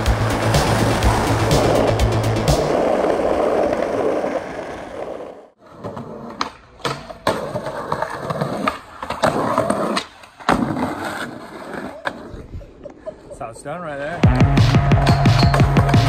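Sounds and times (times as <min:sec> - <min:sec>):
skateboard wheels rolling on pavement: 0:00.0 - 0:16.0.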